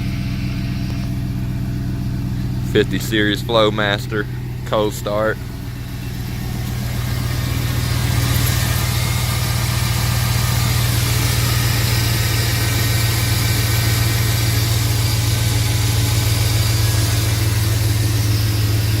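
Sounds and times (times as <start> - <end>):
engine idling with deep exhaust: 0.0 - 19.0.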